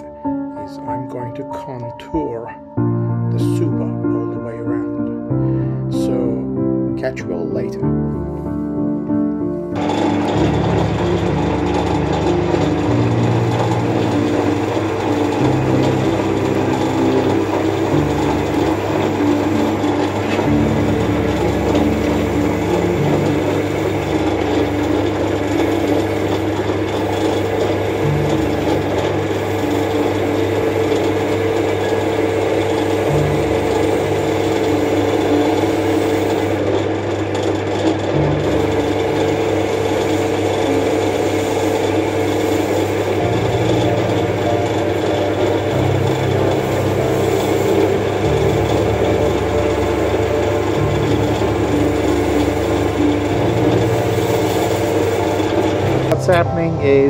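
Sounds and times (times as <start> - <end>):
metal lathe running: 8.4 - 57.0.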